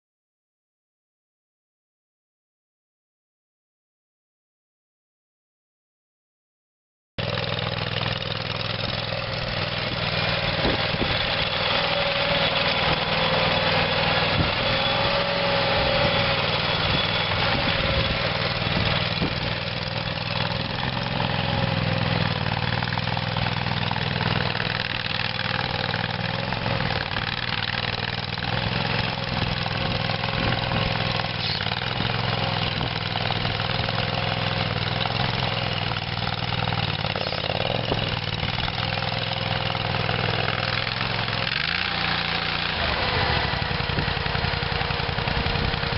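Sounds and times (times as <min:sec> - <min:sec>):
gas engine running: 0:07.2 - 0:45.9.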